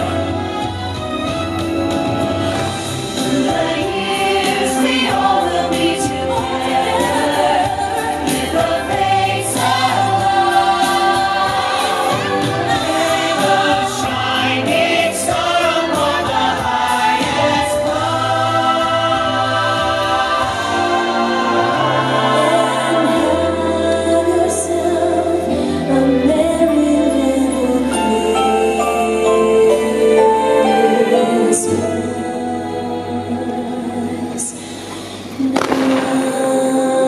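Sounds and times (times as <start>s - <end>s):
choir singing over music: 0.0s - 37.0s.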